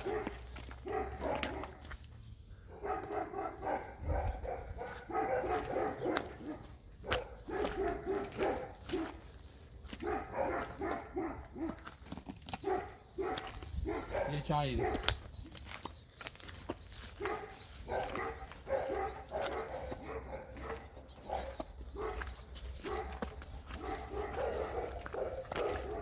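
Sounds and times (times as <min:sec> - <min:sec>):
dog barking: 0:00.0 - 0:01.9, 0:02.7 - 0:11.9, 0:12.5 - 0:26.0.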